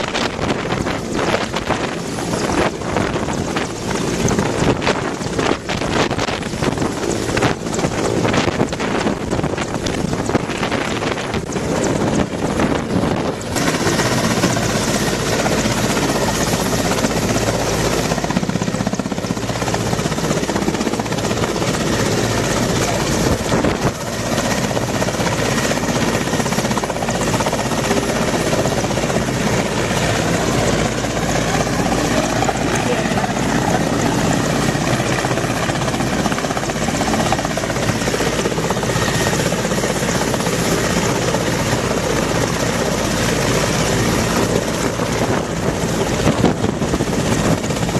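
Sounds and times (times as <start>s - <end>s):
helicopter rotor and engine: 0.0s - 47.9s.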